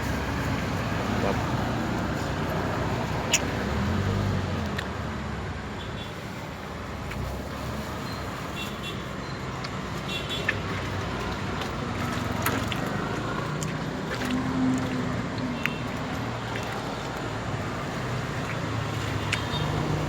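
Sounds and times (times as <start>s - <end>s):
vehicle engines and tyre noise: 0.0s - 20.0s.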